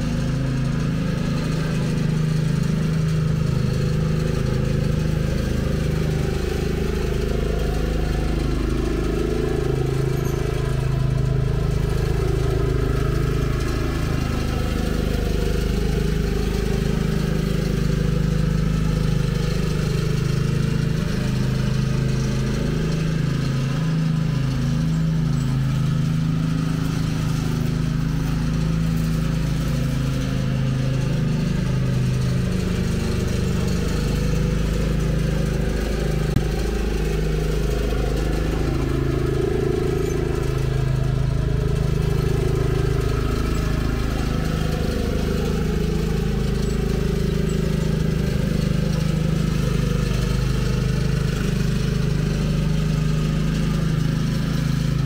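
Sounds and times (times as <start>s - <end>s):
riding lawn mower engine running: 0.0s - 55.0s.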